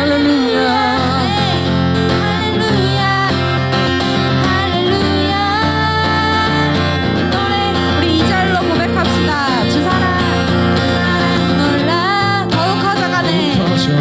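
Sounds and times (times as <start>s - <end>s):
acoustic guitar: 0.0s - 14.0s
person singing: 0.0s - 14.0s.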